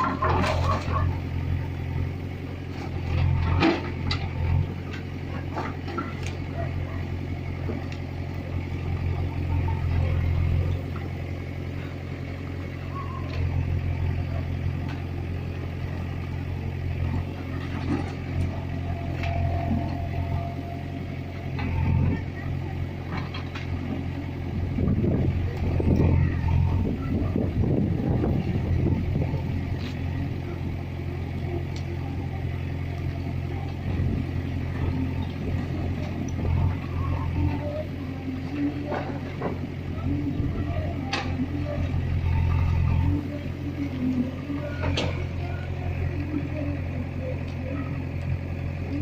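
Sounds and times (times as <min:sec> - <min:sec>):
diesel engine droning: 0:00.0 - 0:49.0.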